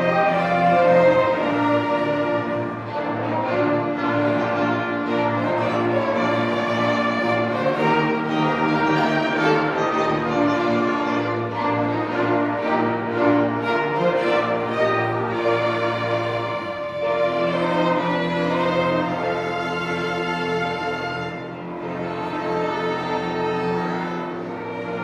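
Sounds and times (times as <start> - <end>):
low bowed strings: 0.0 - 25.0
violin: 0.0 - 25.0.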